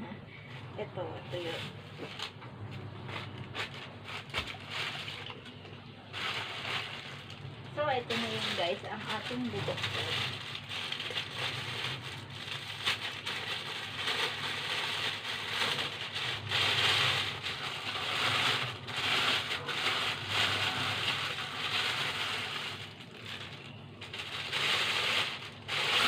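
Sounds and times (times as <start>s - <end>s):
plastic packaging crinkling: 1.0s - 26.0s.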